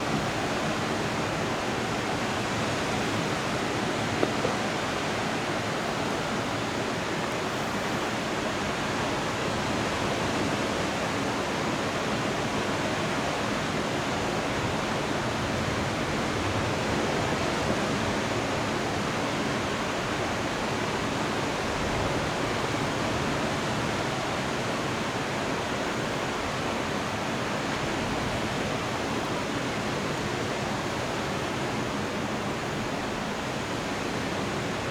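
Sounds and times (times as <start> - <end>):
heavy rain downpour: 0.0 - 34.9.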